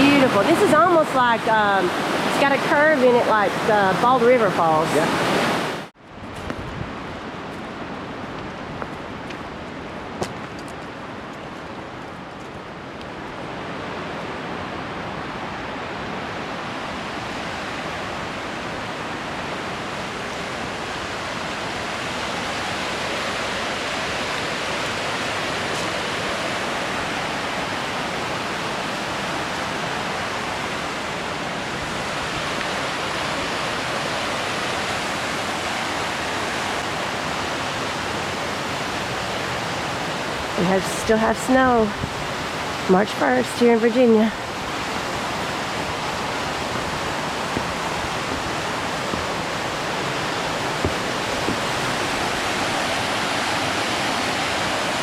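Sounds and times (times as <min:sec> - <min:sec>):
waterfall rushing over rock: 0:00.0 - 0:05.9, 0:13.4 - 0:55.0.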